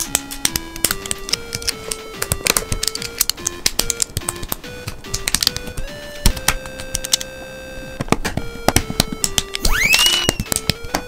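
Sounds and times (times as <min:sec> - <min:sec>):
plastic bricks clicking: 0:00.0 - 0:07.4, 0:08.0 - 0:11.0
background music: 0:00.0 - 0:11.0.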